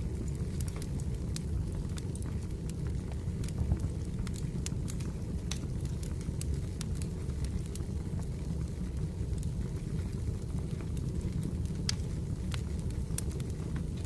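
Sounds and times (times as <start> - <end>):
fire crackling and popping: 0.0 - 14.0
fire low rush: 0.0 - 14.0.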